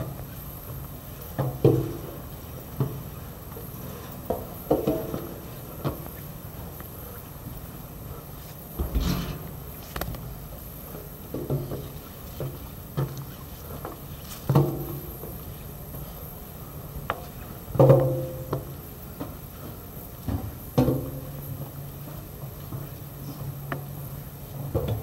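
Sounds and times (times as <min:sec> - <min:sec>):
stair ringing hum: 0:00.0 - 0:22.2
footsteps on metal stairs: 0:00.0 - 0:25.0.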